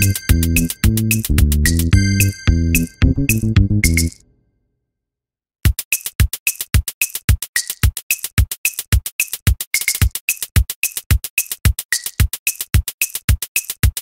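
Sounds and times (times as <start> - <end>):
electronic music drum-machine beat: 0.0 - 4.2, 5.7 - 14.0.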